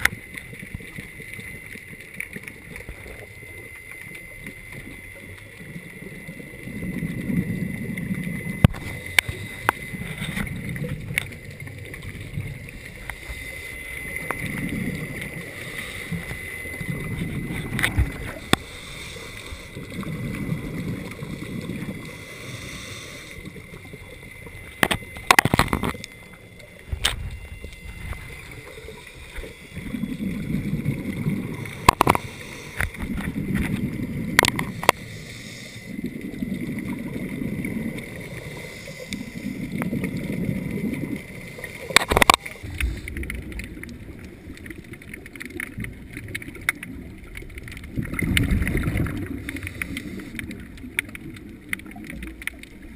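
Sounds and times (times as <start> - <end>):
underwater exhaled bubbles: 0.0 - 52.9.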